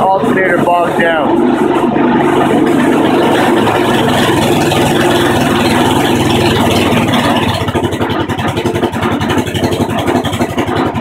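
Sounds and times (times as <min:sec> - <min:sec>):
lawnmower engine bogging down: 0:00.0 - 0:11.0.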